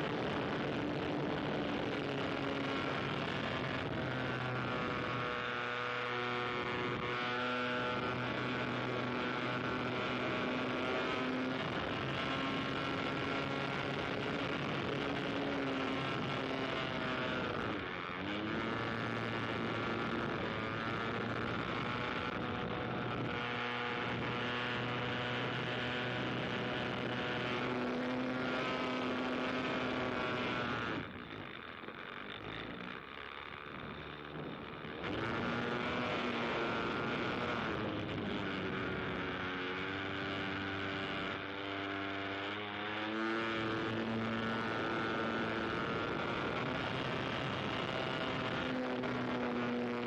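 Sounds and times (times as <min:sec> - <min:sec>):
propeller plane engine: 0:00.0 - 0:50.0.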